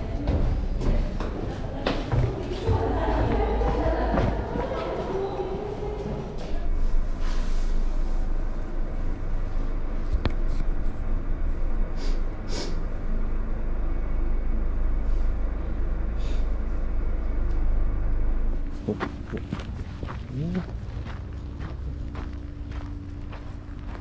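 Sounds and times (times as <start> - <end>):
elevator rumble: 0.0 - 24.0.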